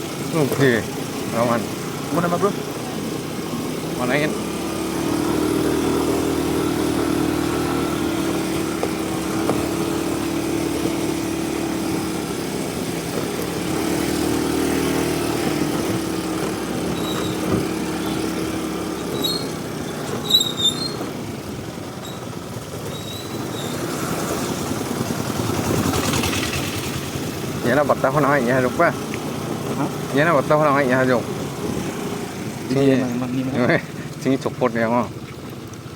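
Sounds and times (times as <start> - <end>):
scooter engine running: 0.0 - 35.9.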